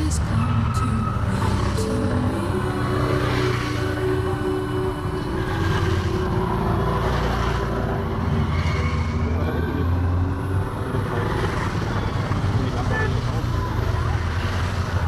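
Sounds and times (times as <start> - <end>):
motorcycles passing on wet road: 0.0 - 15.0.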